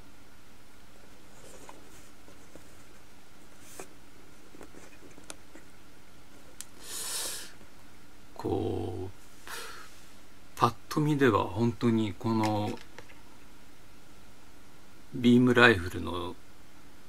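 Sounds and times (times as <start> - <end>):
background hiss: 0.0 - 17.0
soft hiss: 0.0 - 17.0.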